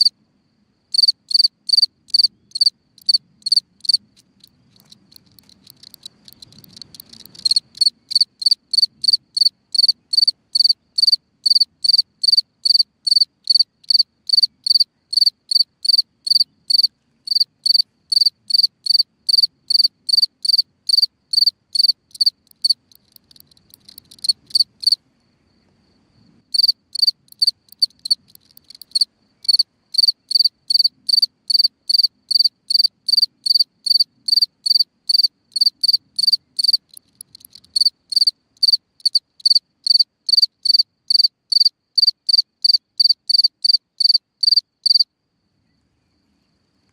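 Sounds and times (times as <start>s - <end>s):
cricket chirping: 0.0s - 46.9s.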